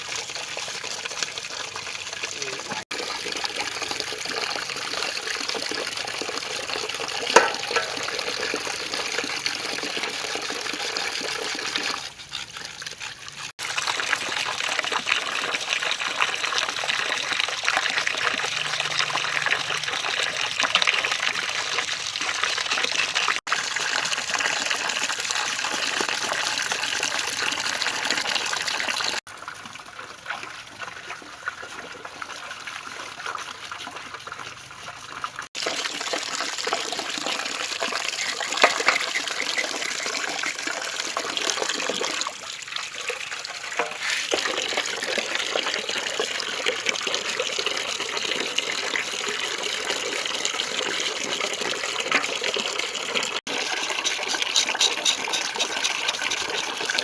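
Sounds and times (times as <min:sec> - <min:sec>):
water pouring and splashing: 0:00.0 - 0:57.0.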